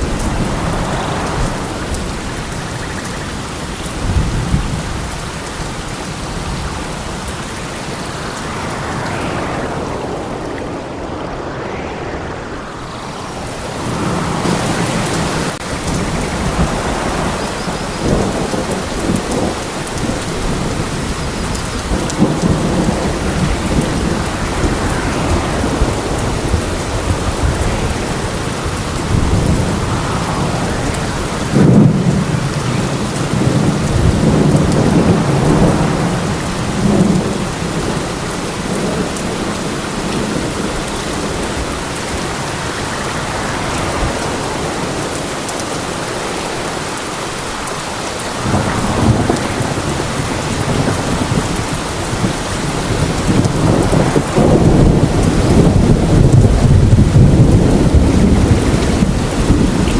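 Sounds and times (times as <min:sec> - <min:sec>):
steady rain falling: 0:00.0 - 0:59.9
rolling thunder: 0:03.9 - 0:45.2, 0:48.4 - 0:59.9.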